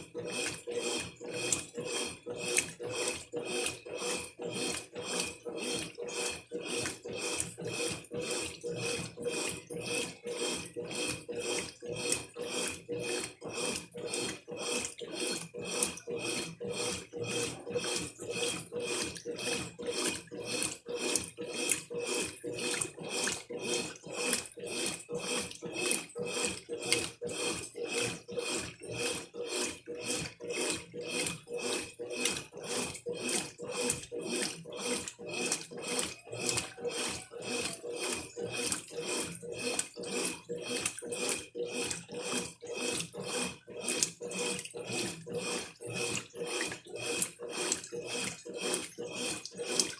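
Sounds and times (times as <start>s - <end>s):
faint motor hum: 0.0s - 49.9s
washing machine swishing laundry: 0.0s - 49.9s.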